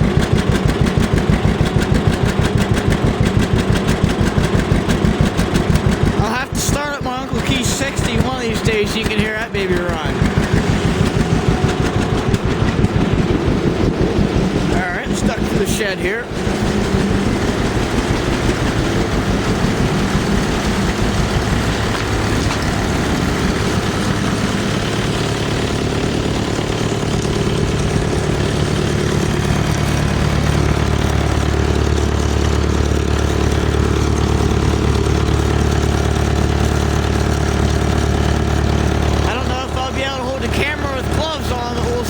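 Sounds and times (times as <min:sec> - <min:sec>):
tractor engine idling: 0:00.0 - 0:42.0.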